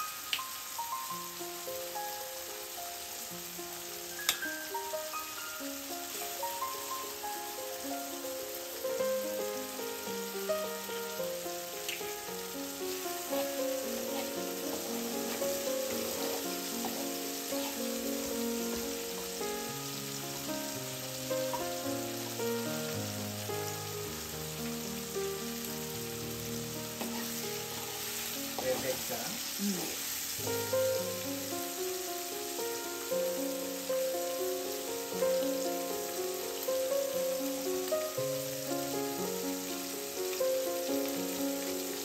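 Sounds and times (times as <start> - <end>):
eggs sizzling in oil: 0.0 - 42.0
instrumental background music: 0.0 - 42.0.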